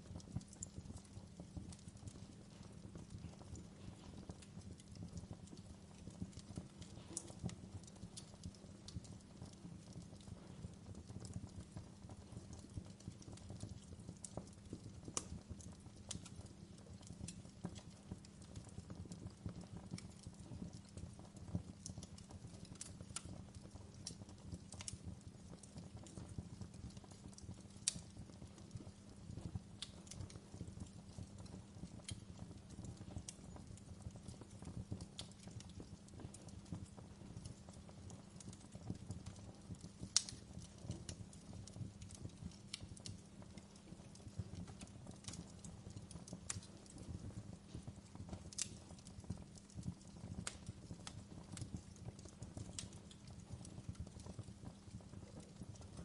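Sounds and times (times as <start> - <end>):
burning wood crackling: 0.0 - 56.0
flames rumbling in fireplace: 0.0 - 56.0.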